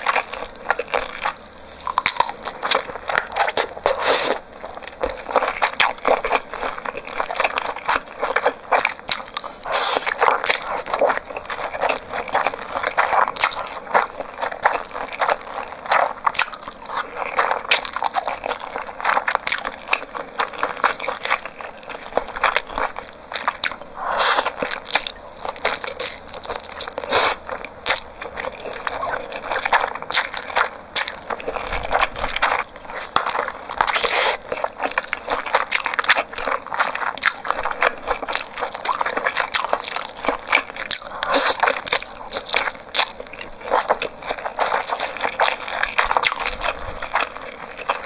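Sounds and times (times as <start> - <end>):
person chewing and slurping noodles: 0.0 - 48.0.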